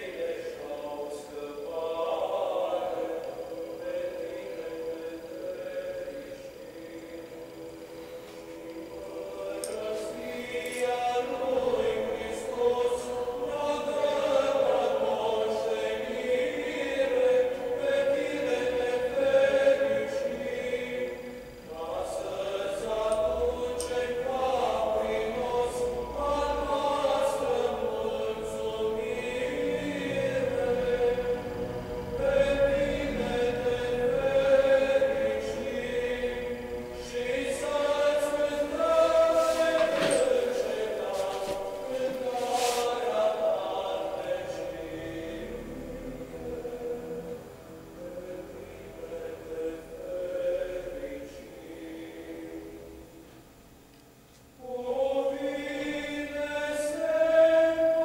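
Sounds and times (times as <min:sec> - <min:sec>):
choir chanting: 0:00.0 - 0:53.4, 0:54.6 - 0:58.0.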